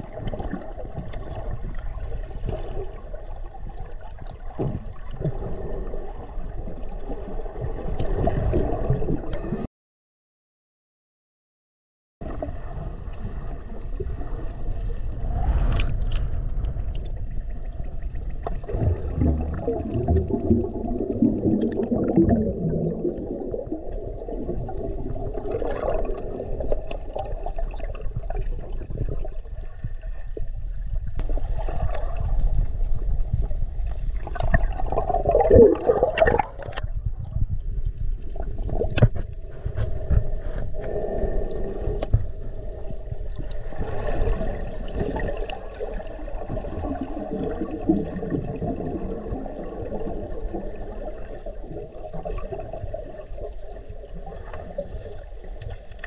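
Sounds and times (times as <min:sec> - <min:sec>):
underwater gurgling and bubbling: 0:00.0 - 0:09.7, 0:12.2 - 0:56.0.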